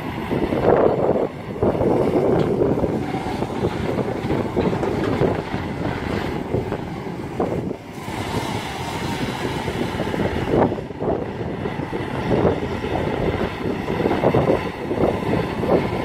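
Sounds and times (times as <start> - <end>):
excavator diesel engine running: 0.0 - 16.0
wind buffeting microphone: 0.0 - 16.0.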